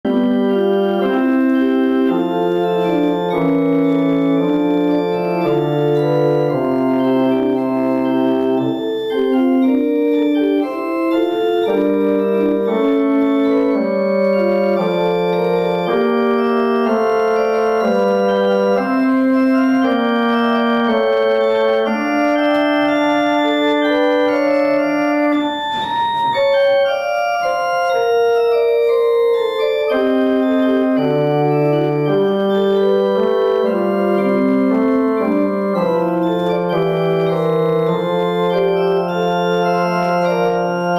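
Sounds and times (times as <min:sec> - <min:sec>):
church organ sustained chords: 0:00.1 - 0:40.9.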